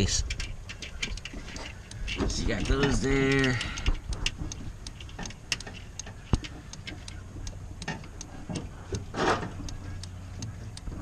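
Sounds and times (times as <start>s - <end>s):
light clicks and taps: 0.0s - 11.0s.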